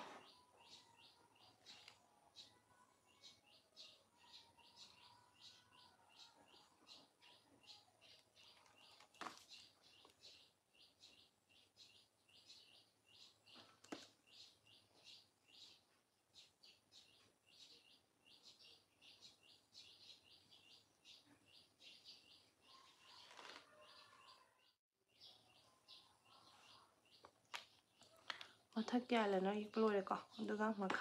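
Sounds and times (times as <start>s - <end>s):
faint bird chirping: 0.0s - 31.0s.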